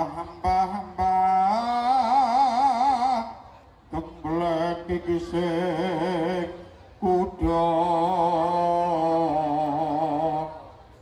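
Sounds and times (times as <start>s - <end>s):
person singing chant-like melody: 0.0s - 11.0s.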